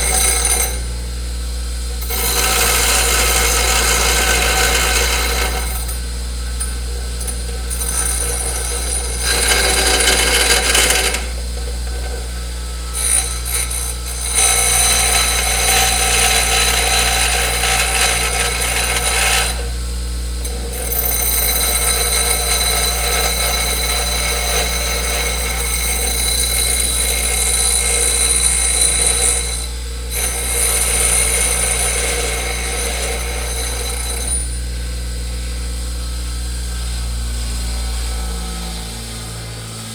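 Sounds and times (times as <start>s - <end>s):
hissing grind on wheel: 0.0s - 1.0s, 1.8s - 34.7s
grinding wheel motor hum: 0.0s - 39.9s.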